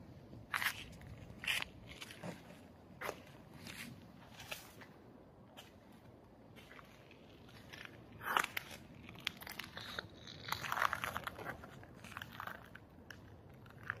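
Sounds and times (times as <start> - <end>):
footsteps crunching on concrete: 0.4 - 12.6.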